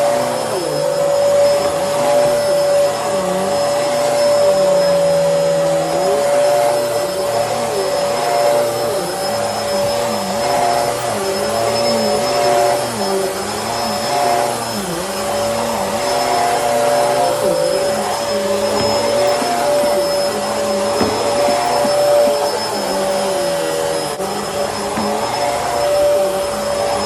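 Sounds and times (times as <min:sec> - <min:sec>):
upright vacuum cleaner running: 0:00.0 - 0:27.0.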